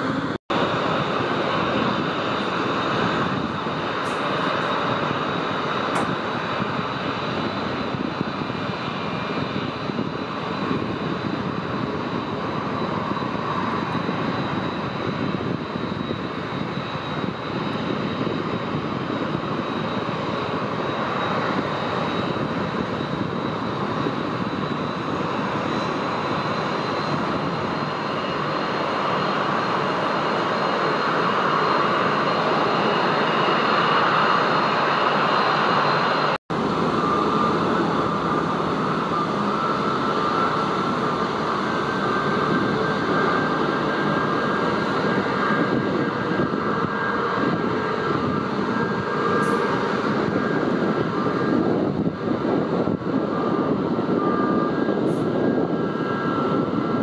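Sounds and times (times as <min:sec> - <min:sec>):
airliner engines whining: 0:00.0 - 0:57.0.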